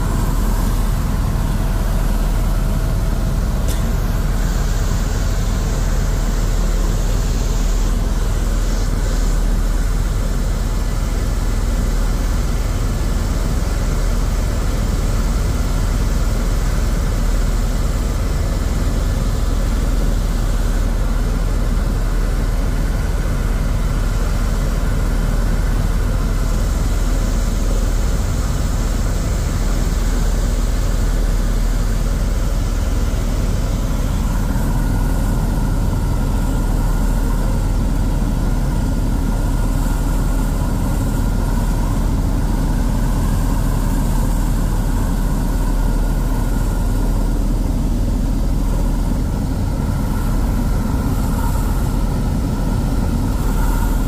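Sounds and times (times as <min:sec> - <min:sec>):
faint steady whine: 0:00.0 - 0:54.0
helicopter turbine and rotor drone: 0:00.0 - 0:54.0.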